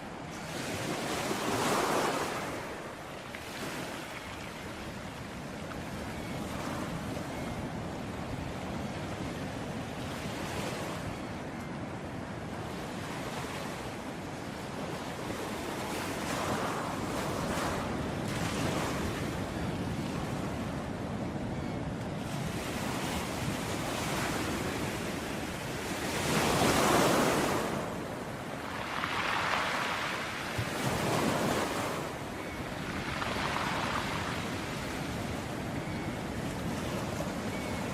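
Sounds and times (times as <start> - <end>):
ocean waves breaking on beach: 0.0 - 37.9.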